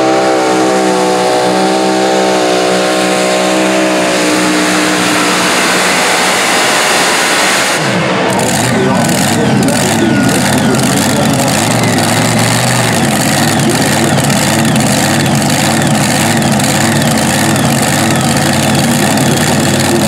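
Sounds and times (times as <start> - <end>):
supercharged engine idling: 0.0 - 20.0.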